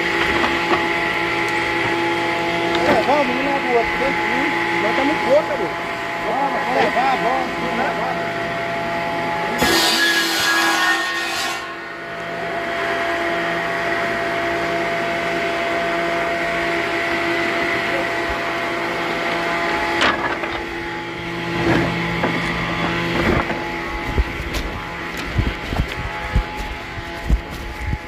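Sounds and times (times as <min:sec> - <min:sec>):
woodworking machinery humming: 0:00.0 - 0:28.0.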